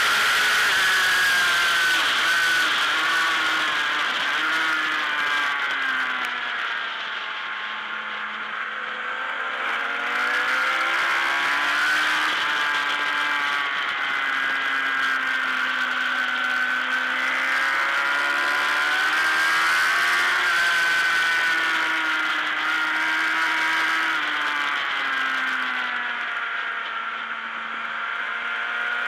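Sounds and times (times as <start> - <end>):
racing motorcycle engine: 0.0 - 29.0.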